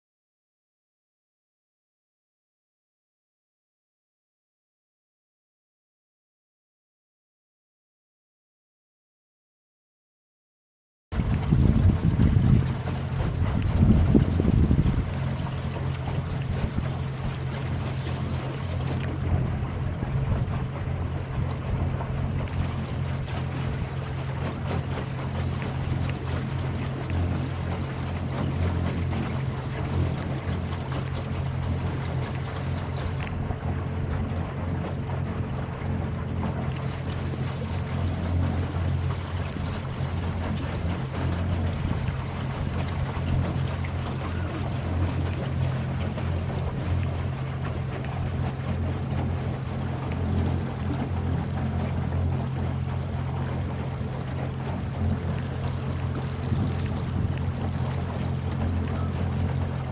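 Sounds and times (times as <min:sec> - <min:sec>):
water splashing against hull: 0:11.1 - 0:59.9
steady low rumble: 0:11.2 - 0:59.2
electric boat motor hum: 0:11.2 - 0:59.9.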